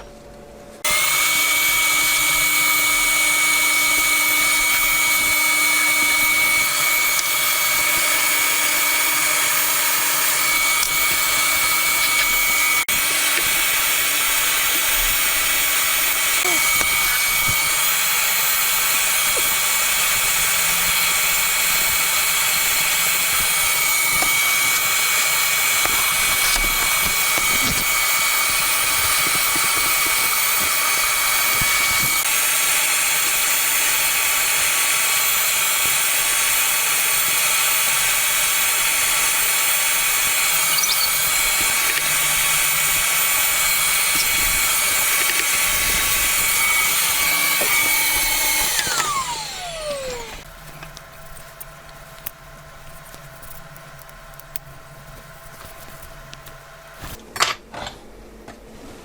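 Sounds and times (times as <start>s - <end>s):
small electric power tool whining: 0.8s - 54.6s.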